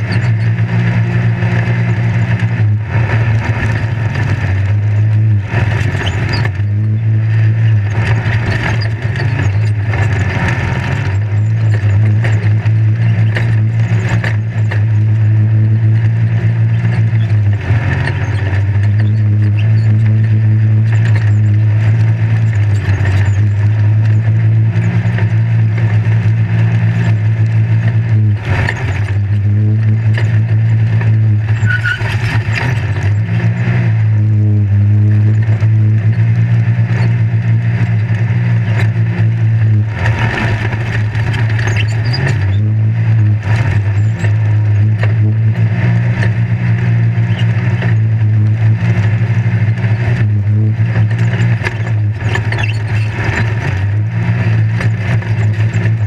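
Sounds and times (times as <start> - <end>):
off-road vehicle engine running hard: 0.0 - 56.0
rattling and dirt noise: 0.0 - 56.0.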